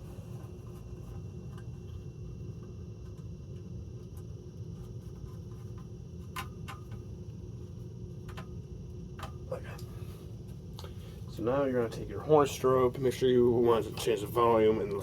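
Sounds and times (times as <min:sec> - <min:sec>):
faint high whine: 0:00.0 - 0:15.0
low room hum: 0:00.0 - 0:15.0.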